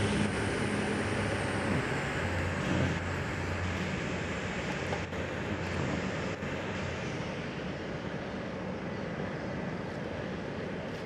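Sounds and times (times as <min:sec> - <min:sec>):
train engine humming: 0:00.0 - 0:11.0.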